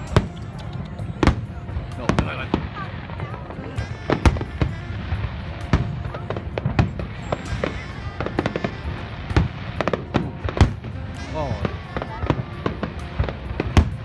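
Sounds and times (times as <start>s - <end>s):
fireworks exploding: 0.0s - 14.0s.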